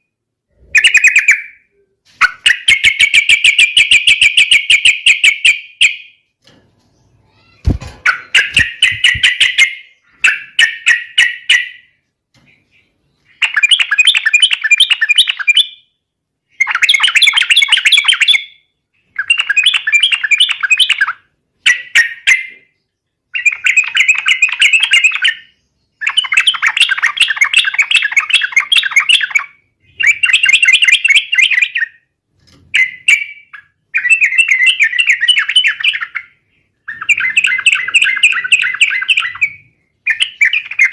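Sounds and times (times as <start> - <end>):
bird chattering song: 6.9 - 32.1, 32.7 - 40.9.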